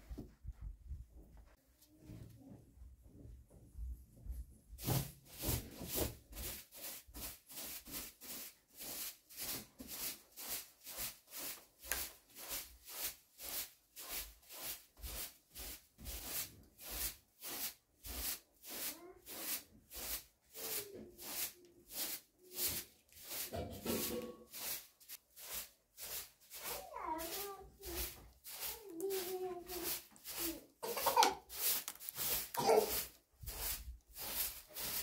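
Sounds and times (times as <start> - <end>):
broom sweeping carpet: 4.2 - 35.0.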